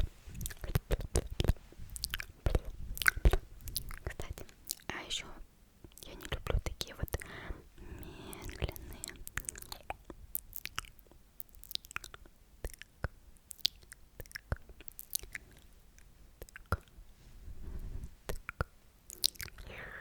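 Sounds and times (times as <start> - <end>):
wet mouth clicks and smacks: 0.4 - 5.0, 5.9 - 7.3, 8.1 - 17.0, 18.3 - 19.7.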